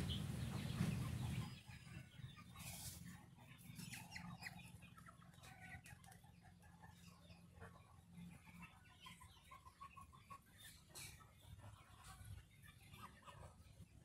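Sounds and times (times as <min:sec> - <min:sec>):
ducks clucking: 0:00.0 - 0:14.0.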